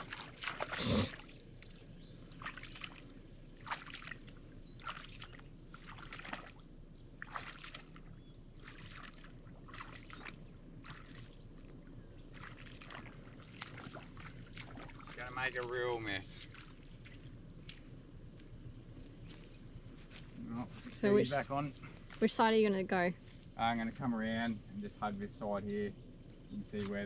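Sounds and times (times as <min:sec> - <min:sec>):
footsteps sloshing through mud: 0:00.0 - 0:24.7
low steady rumble: 0:00.0 - 0:27.0.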